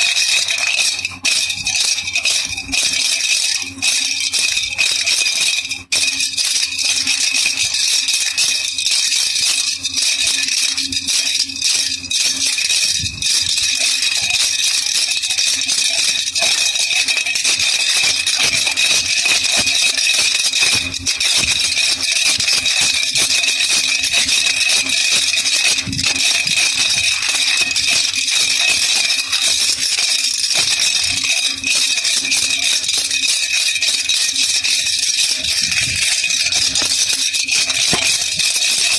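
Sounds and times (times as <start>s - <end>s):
baby rattle shaking: 0.0s - 38.9s.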